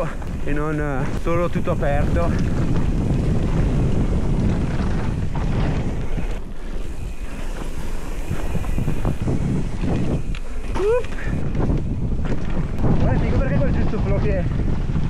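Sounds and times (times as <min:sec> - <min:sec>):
tyres rumbling on dirt trail: 0:00.0 - 0:15.0
wind rushing over microphone: 0:00.0 - 0:15.0.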